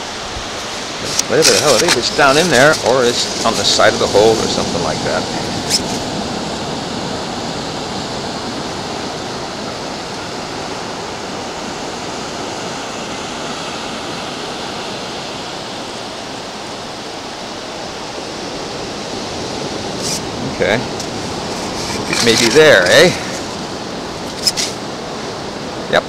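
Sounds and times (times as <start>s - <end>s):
ocean surf on a beach: 0.0s - 26.0s.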